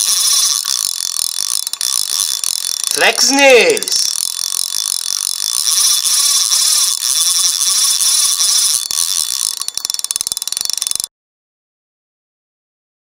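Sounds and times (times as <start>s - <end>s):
rapid ratchet-like clicking: 0.0s - 11.1s.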